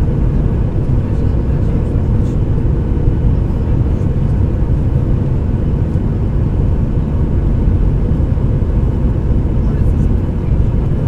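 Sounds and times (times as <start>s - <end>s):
airliner low rumble: 0.0s - 11.0s.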